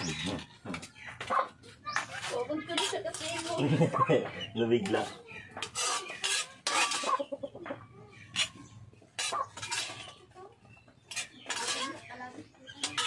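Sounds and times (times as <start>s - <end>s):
chickens clucking: 0.0s - 13.0s
dishes and utensils clattering: 0.0s - 13.0s.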